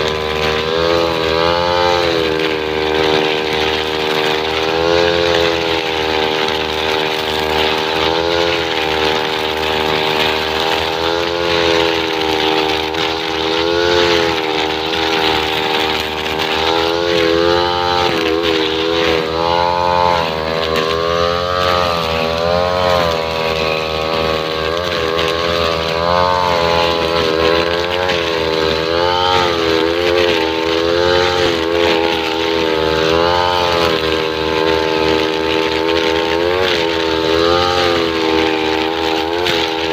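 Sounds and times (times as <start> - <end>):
brush cutter engine at high revs: 0.0 - 39.9.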